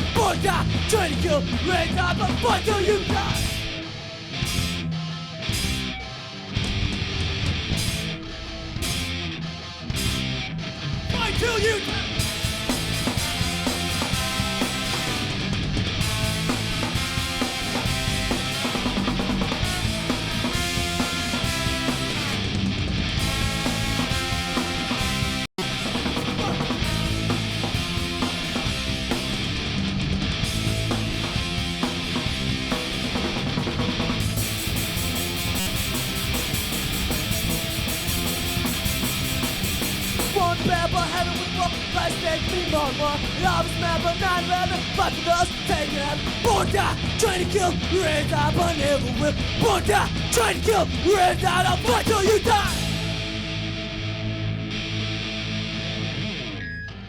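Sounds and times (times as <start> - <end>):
driving drum beat: 0.0 - 3.8, 6.6 - 9.2, 10.0 - 53.5
rock band playing: 0.0 - 56.8
electric guitars: 0.0 - 57.0.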